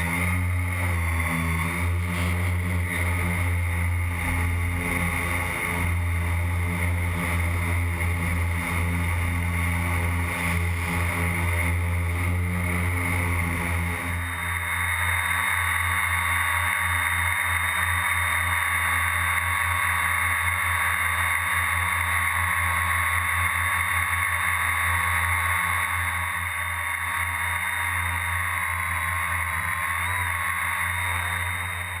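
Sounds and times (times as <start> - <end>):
quadcopter motors buzzing: 0.0 - 32.0.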